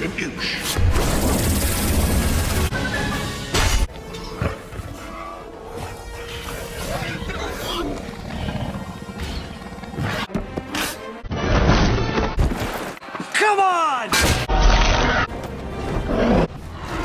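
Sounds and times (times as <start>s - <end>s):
movie music: 0.0s - 17.0s.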